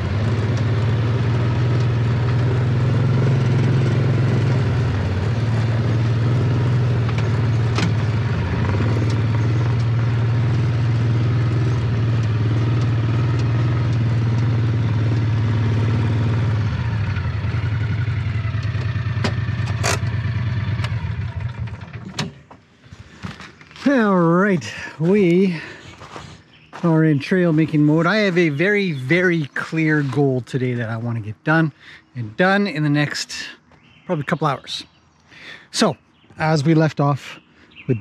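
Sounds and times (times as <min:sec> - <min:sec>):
vehicle engine running: 0:00.0 - 0:34.6.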